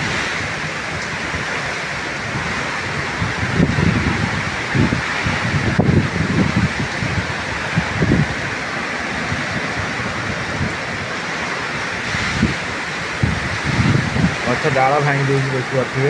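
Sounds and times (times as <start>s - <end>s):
heavy rain hissing: 0.0s - 16.0s
wind buffeting microphone: 0.0s - 16.0s.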